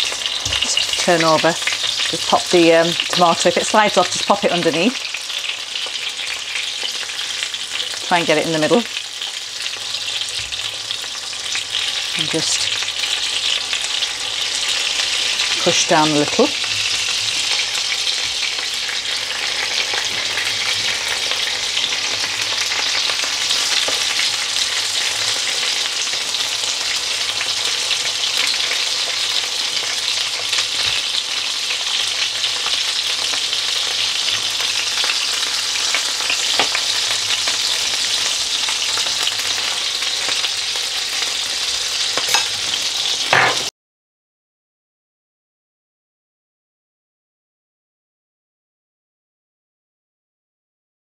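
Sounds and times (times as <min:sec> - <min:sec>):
patties sizzling in oil: 0:00.0 - 0:43.7.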